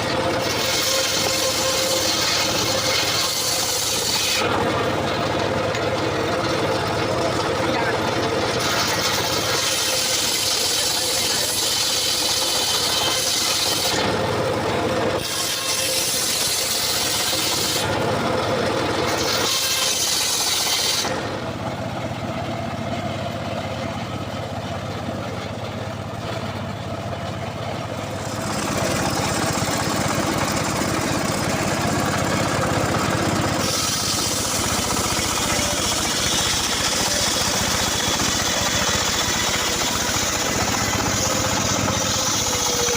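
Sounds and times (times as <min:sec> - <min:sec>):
petrol saw cutting wood: 0:00.0 - 0:42.9.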